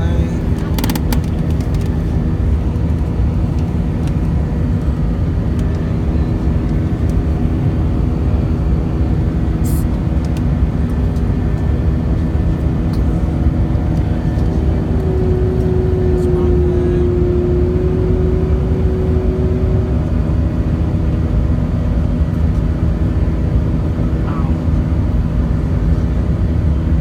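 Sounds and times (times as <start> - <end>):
aircraft cabin engine rumble: 0.0 - 27.0
steady hum: 0.0 - 27.0.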